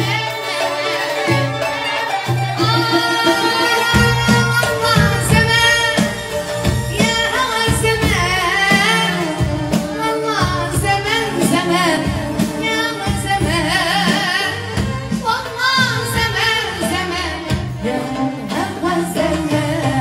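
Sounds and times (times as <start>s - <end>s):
band playing: 0.0s - 20.0s
hand percussion: 0.0s - 20.0s
woman singing: 2.6s - 6.3s, 6.9s - 20.0s.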